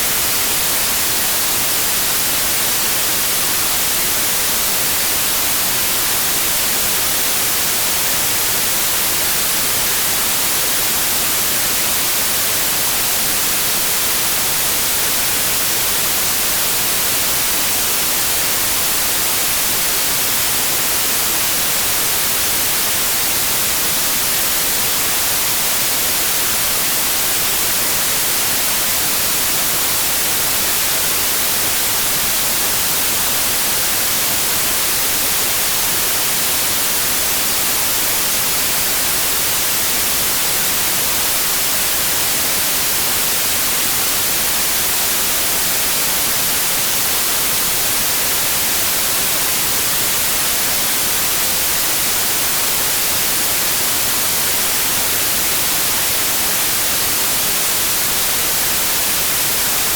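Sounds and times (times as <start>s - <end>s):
white noise: 0.0s - 59.9s.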